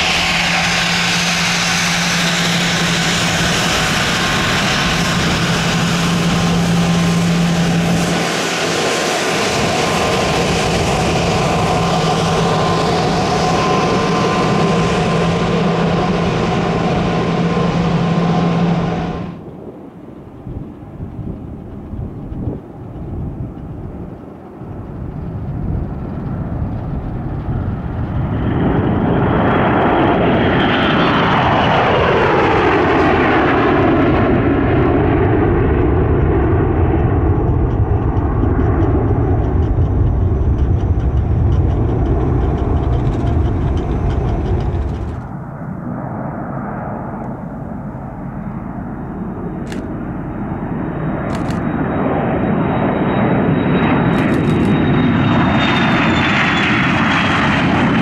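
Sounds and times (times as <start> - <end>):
jet taking off with whine: 0.0 - 58.0
steady jet engine: 0.0 - 58.0.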